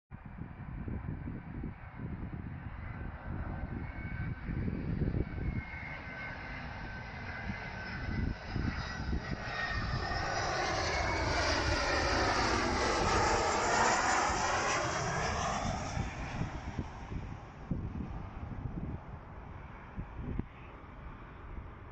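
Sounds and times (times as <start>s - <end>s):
jet plane whine: 0.2s - 21.9s.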